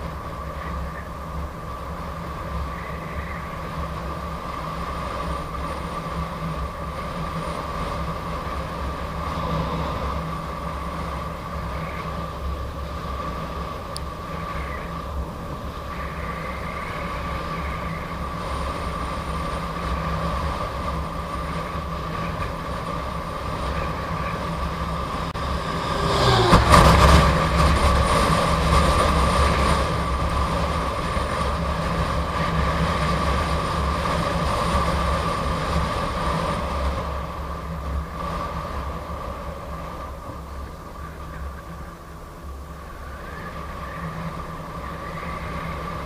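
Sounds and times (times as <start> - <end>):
electric unicycle high hum: 0.0 - 46.0
road rumble: 0.0 - 46.0
wind noise: 0.0 - 46.0.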